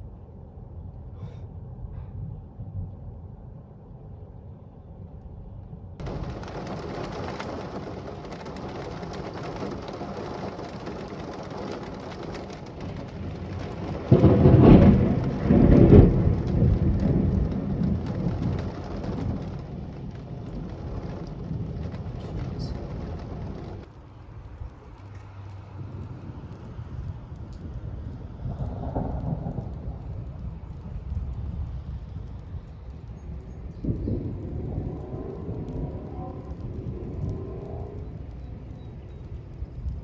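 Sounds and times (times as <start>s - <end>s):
thunder clap rumbling: 6.0s - 24.2s, 25.5s - 40.0s
rain falling: 6.0s - 40.0s.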